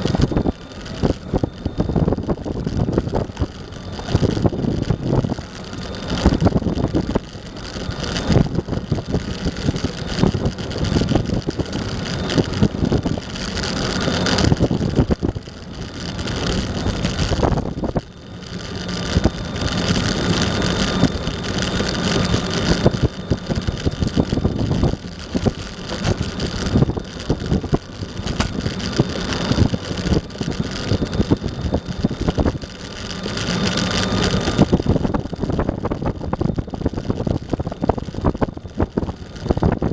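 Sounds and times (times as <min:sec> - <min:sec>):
faint electric whine: 0:00.0 - 0:39.9
skateboard wheels rolling on pavement: 0:00.0 - 0:39.9
wind on microphone: 0:00.0 - 0:39.9.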